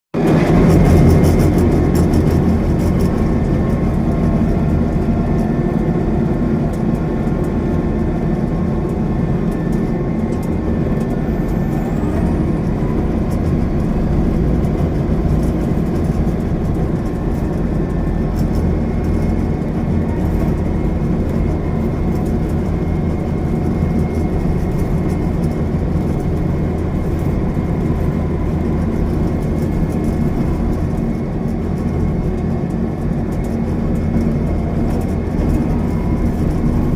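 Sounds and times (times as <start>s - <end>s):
combine harvester engine running: 0.2s - 36.9s.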